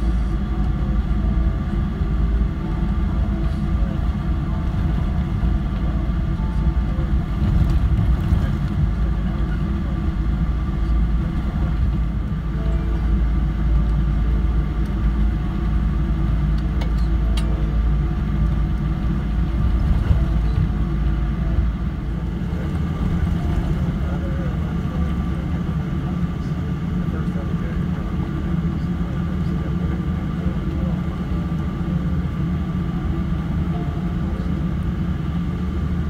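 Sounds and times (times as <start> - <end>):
aircraft engine hum: 0.0 - 36.0
low cabin rumble: 0.0 - 36.0.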